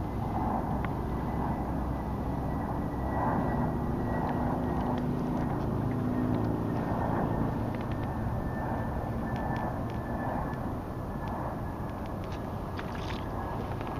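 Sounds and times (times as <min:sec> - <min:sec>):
distant engine rumble: 0:00.0 - 0:13.9.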